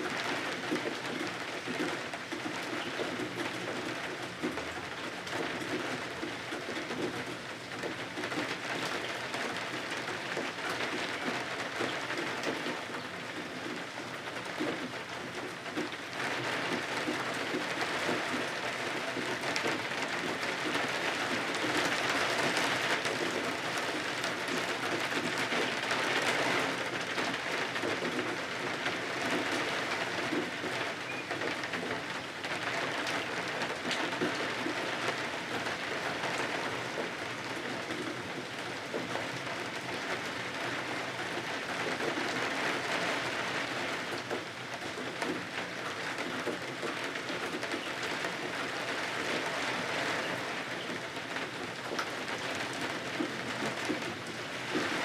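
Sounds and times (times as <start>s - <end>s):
rain pattering on windows: 0.0s - 55.0s.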